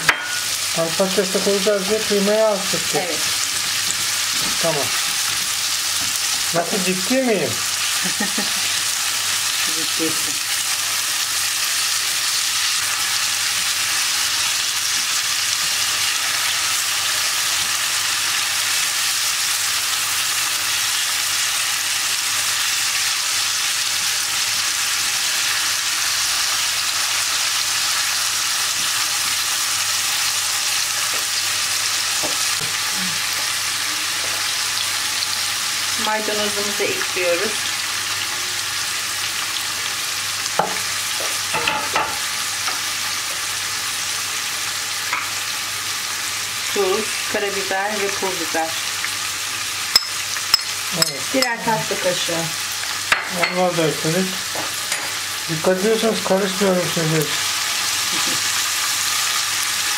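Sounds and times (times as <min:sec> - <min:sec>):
meat sizzling in a pan: 0:00.0 - 0:59.9.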